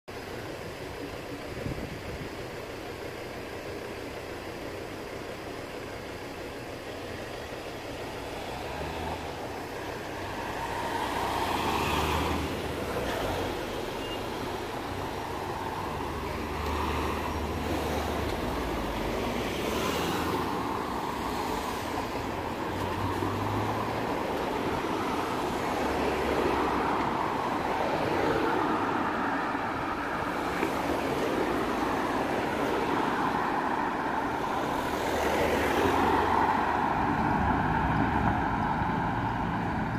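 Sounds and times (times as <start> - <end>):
cars passing on street: 0.1 - 39.9.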